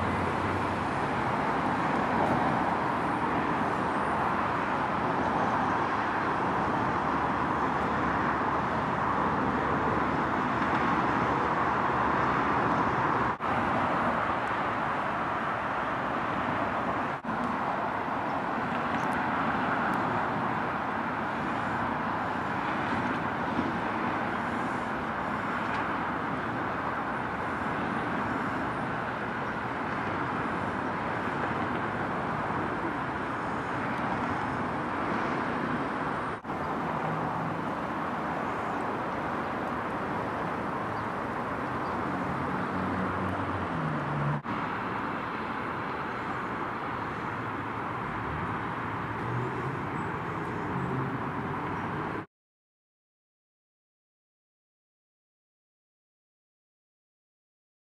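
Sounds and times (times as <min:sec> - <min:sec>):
distant traffic hum: 0:00.0 - 0:52.3.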